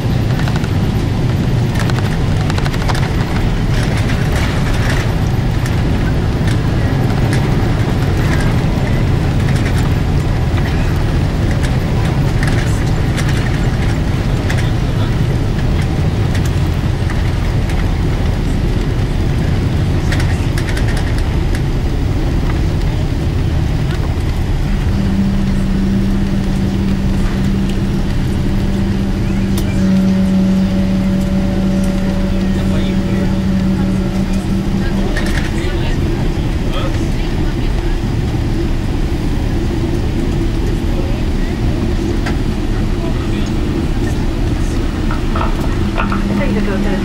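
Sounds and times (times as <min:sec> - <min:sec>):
airplane cabin rumble: 0:00.0 - 0:47.0
steady low hum: 0:00.0 - 0:47.0.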